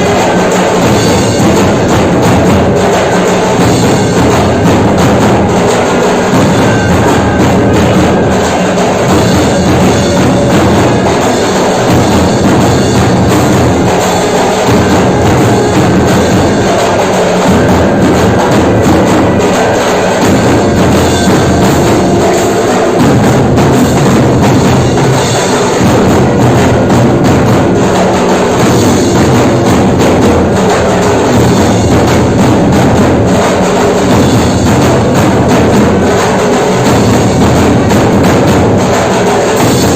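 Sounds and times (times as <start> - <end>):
steady percussion beat: 0.0 - 39.9
loud devotional music: 3.3 - 37.4.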